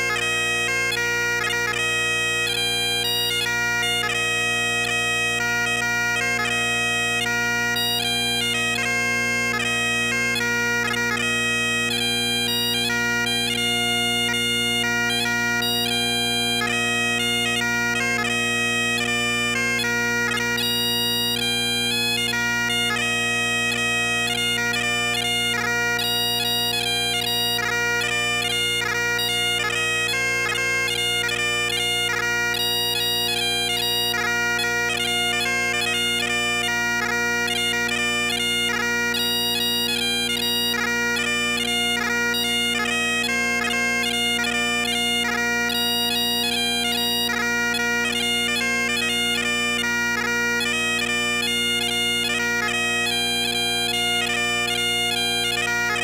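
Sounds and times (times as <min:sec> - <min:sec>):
bagpipes playing: 0:00.0 - 0:56.0.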